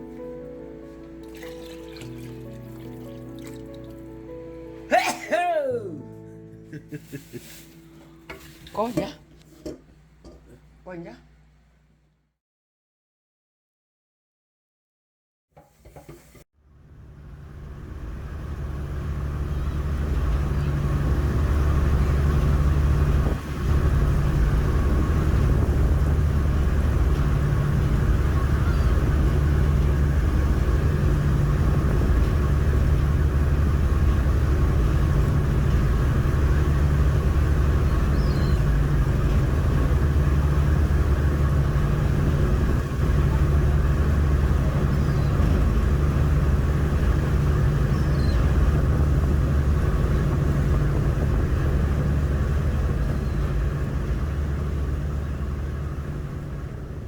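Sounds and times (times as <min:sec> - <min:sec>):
low engine drone: 0:00.0 - 0:12.1, 0:16.6 - 0:57.0.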